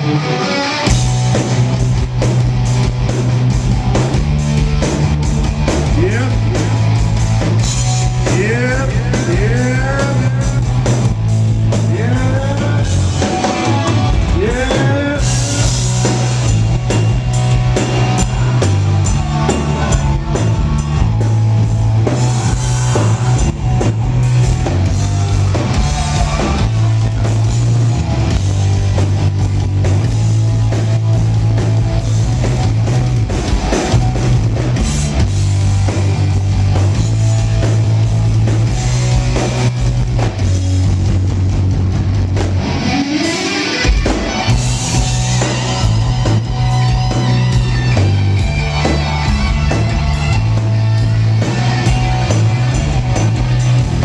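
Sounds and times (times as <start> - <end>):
live heavy metal band: 0.0 - 54.0.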